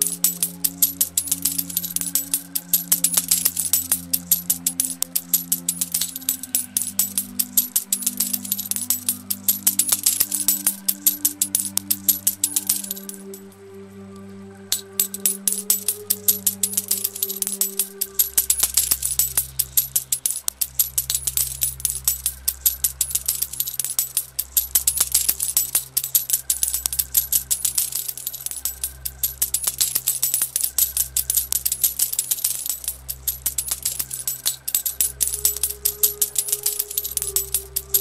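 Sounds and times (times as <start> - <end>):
coins clinking and jingling: 0.0 - 13.6, 14.7 - 38.0
slow music with deep bass: 0.0 - 38.0.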